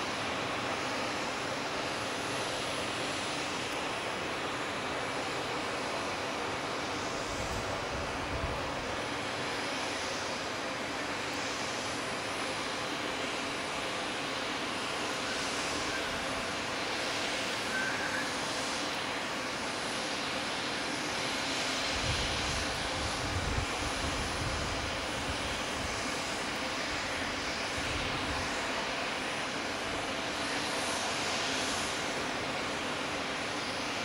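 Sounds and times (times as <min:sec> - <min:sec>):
airliner engines running: 0:00.0 - 0:34.0.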